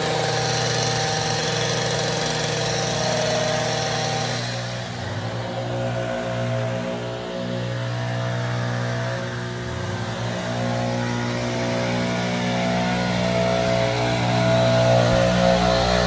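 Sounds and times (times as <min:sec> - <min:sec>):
string trimmer engine running: 0:00.0 - 0:16.0.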